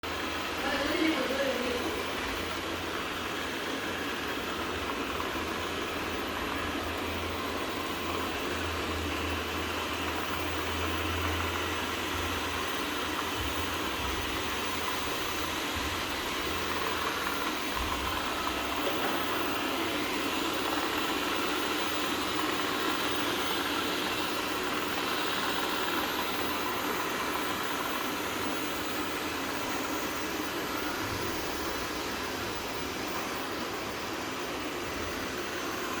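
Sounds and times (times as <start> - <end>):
robot vacuum running: 0.1 - 36.0.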